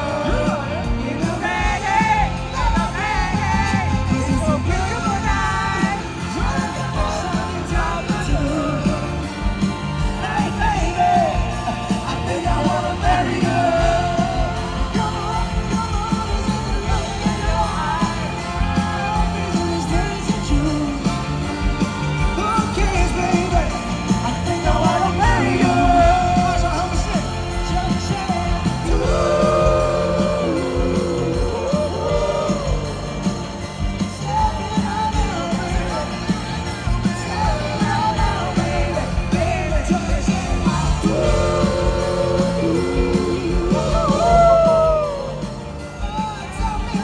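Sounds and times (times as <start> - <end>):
live pop-rock band: 0.0 - 47.0
person singing: 0.0 - 47.0.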